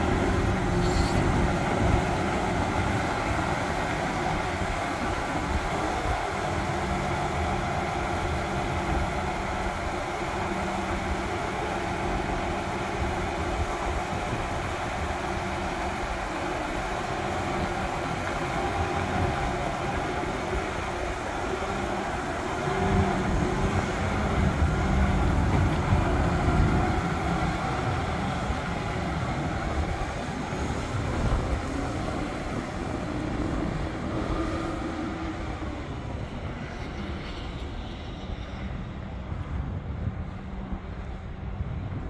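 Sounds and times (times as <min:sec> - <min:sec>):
tractor diesel engine running: 0:00.0 - 0:36.5.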